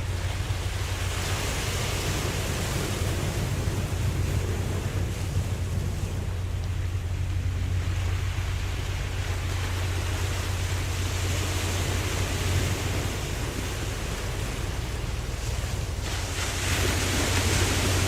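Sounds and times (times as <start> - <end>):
constant low hum: 0.0 - 18.0
ocean surf hissing: 0.0 - 18.0.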